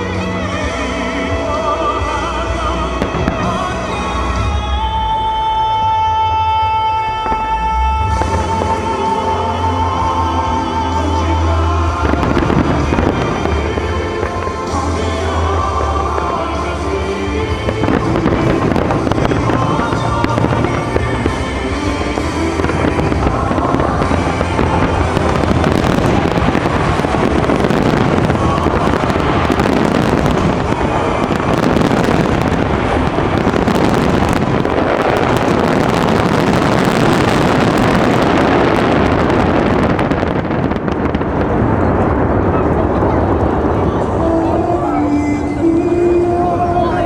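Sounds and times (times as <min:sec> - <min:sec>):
fireworks bursting and crackling: 0:00.0 - 0:46.0
show music: 0:00.0 - 0:47.0.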